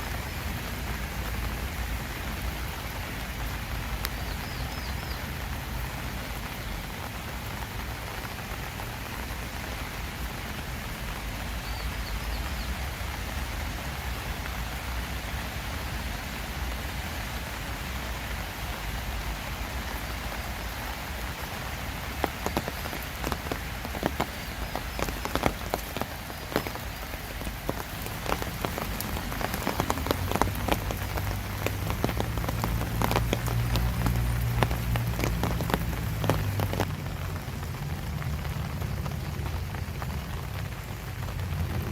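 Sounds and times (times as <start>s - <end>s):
heavy raindrops ticking: 0.0s - 41.9s
steady rain falling: 0.0s - 41.9s.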